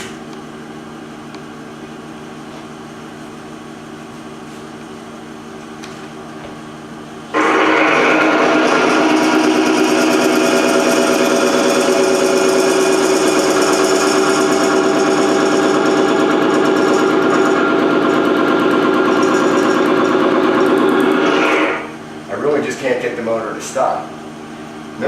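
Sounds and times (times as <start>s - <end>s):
machine whine with rattling buzz: 0.0s - 25.0s.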